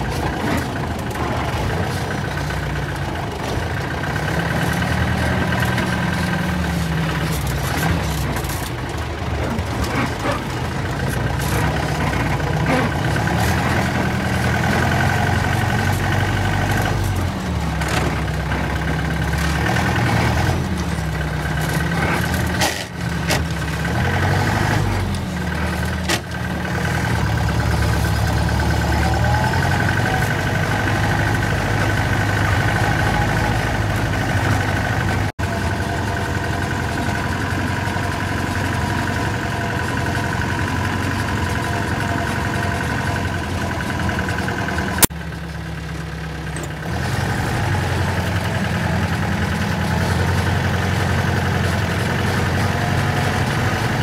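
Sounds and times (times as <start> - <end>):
jeep engine revving: 0.0 - 54.0.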